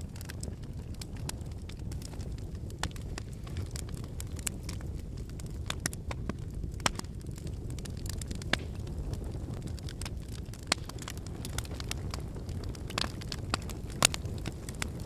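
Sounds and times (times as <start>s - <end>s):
firewood crackling and popping: 0.0s - 15.0s
low rumble of flame: 0.0s - 15.0s.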